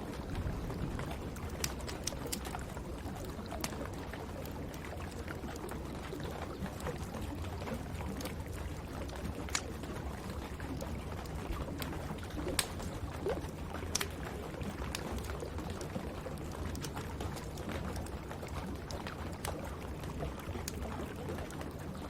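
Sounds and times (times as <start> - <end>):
wood fire crackling: 0.2 - 21.7.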